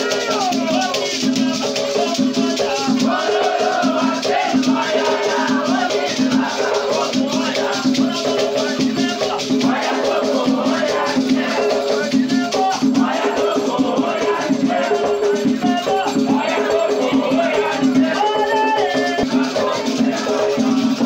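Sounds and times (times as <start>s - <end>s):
pulsing drum beat: 0.0s - 21.0s
rattle shaken rapidly: 0.0s - 21.0s
voices singing: 0.0s - 21.0s.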